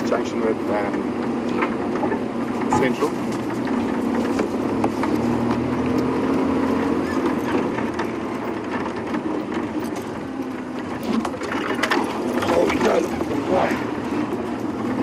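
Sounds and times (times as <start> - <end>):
vehicle engine driving off-road: 0.0 - 15.0.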